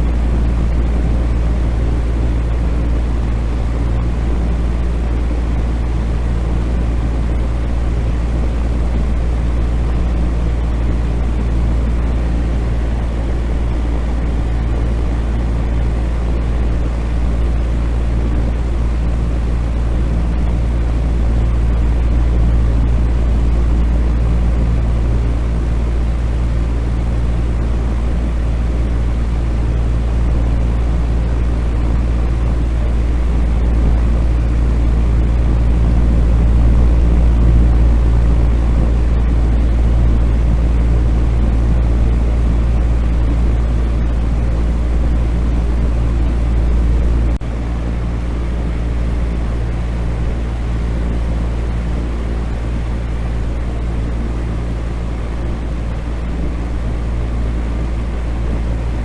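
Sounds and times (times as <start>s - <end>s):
fan running: 0.0s - 59.0s.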